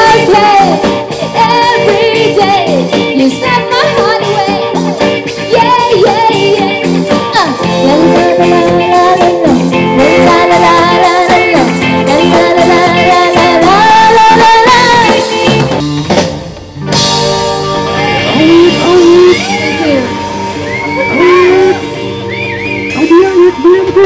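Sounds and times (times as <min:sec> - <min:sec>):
woman singing lead: 0:00.0 - 0:15.6, 0:17.9 - 0:22.0
live rock band playing: 0:00.0 - 0:24.0.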